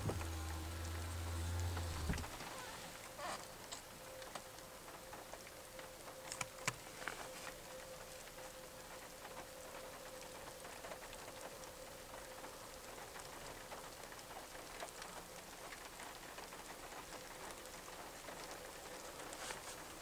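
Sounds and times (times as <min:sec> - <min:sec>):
faint steady hum: 0:00.0 - 0:20.0
rain falling steadily: 0:00.0 - 0:20.0
raindrop ticks: 0:00.1 - 0:20.0.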